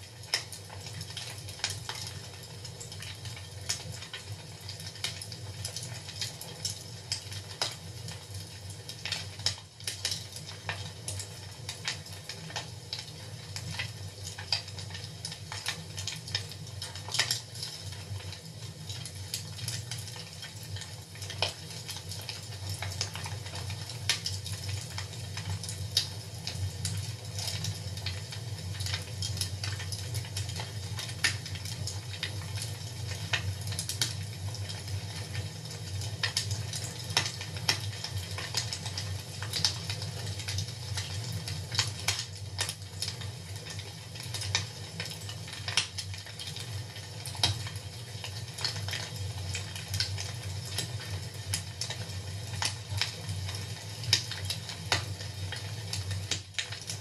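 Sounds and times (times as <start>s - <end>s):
fire crackling: 0.0s - 57.0s
low rumble of fire: 0.0s - 57.0s.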